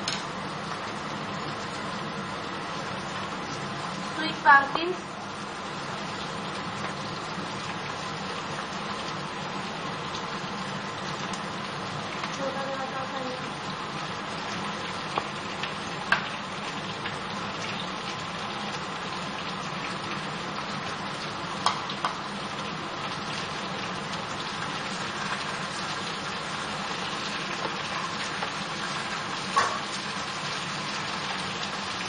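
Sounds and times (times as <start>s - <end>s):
vegetables sizzling in frying pan: 0.0s - 32.0s.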